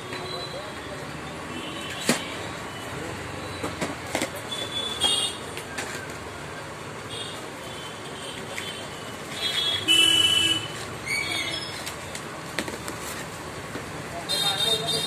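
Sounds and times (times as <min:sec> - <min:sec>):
shop background noise: 0:00.0 - 0:15.0
street traffic: 0:00.0 - 0:15.0.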